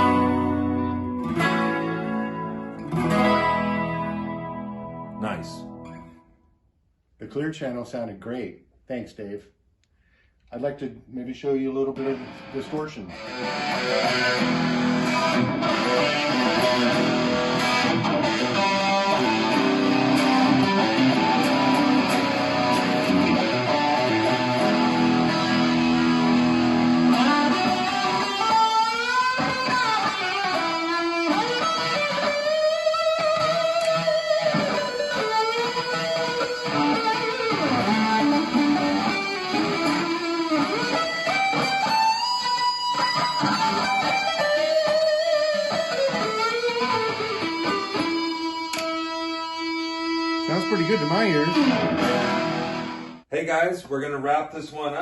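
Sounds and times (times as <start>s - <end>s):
distorted electric guitar: 0.0s - 6.2s, 11.4s - 53.3s.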